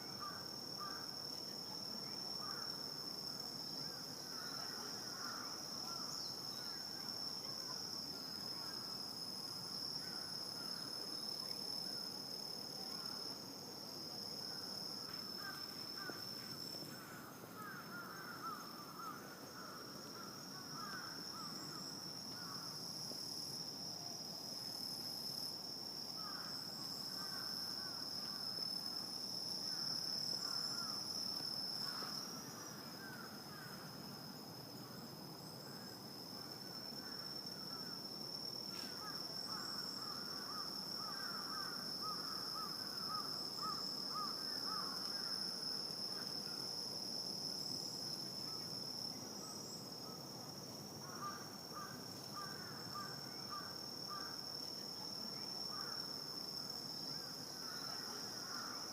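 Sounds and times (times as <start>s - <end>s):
insect high-pitched trill: 0.0s - 58.9s.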